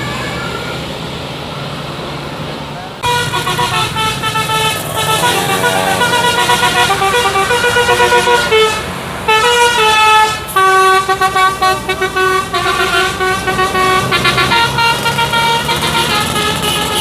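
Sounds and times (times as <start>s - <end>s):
bus musical horn: 3.0s - 17.0s.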